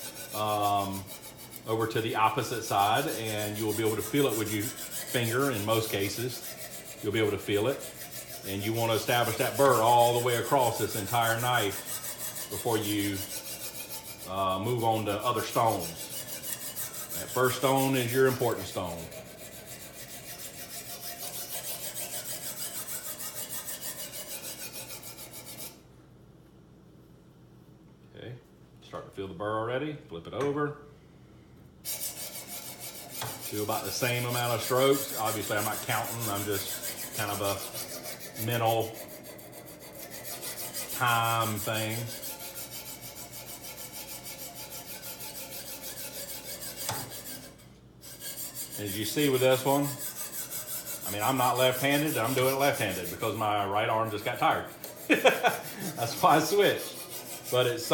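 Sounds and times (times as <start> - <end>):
sharpening stone rasping on knife: 0.0 - 25.8, 31.9 - 57.9.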